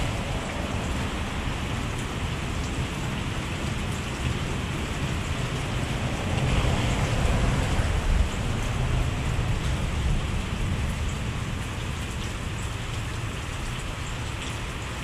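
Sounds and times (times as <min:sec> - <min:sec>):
heavy rain falling: 0:00.0 - 0:15.0
raindrops ticking close by: 0:00.0 - 0:15.0.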